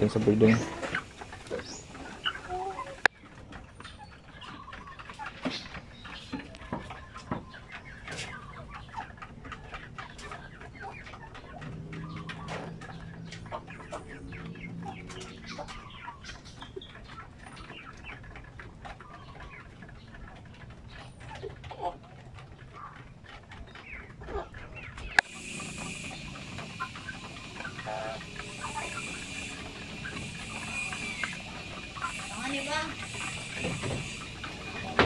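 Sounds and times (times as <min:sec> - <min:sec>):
chickens clucking softly: 0:00.0 - 0:35.0.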